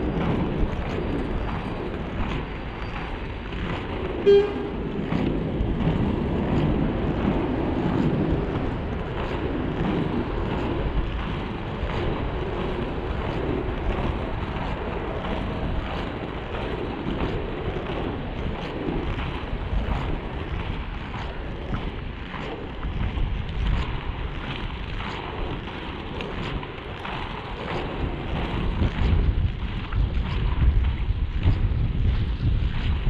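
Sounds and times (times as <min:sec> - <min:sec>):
skate wheels rolling on asphalt: 0:00.0 - 0:33.0
wind buffeting microphone: 0:00.0 - 0:33.0.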